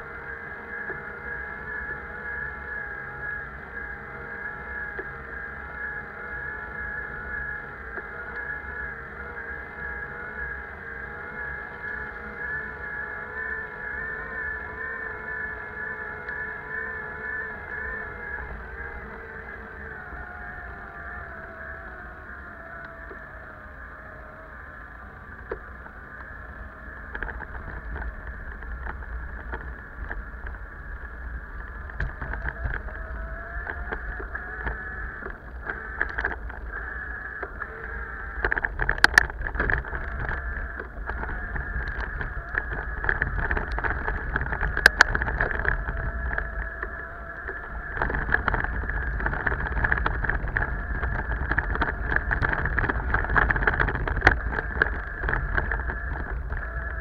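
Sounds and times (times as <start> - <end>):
bicycle tyre road noise: 0.0 - 57.0
wind on microphone: 0.0 - 57.0.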